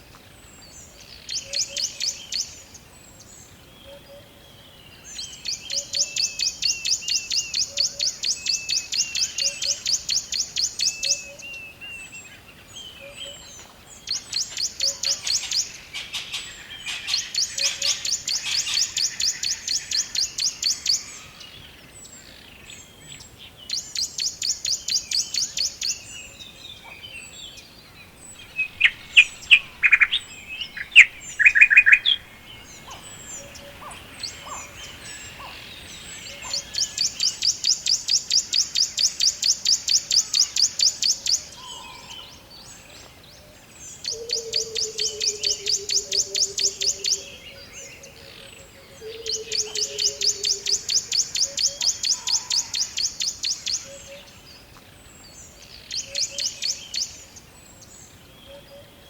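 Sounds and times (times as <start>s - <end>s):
songbirds trilling: 0.4s - 59.0s.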